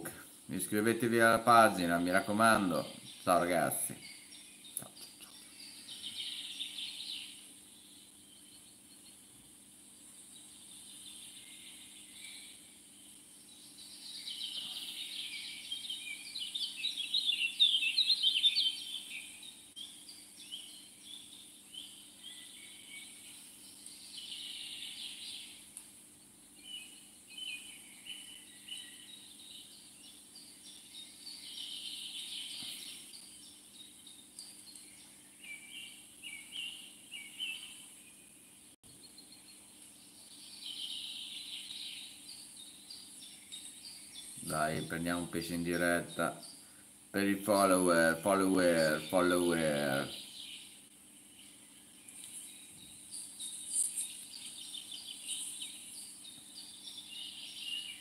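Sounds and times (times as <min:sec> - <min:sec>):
birds chirping: 0:00.0 - 0:58.0
faint outdoor background: 0:00.0 - 0:58.0.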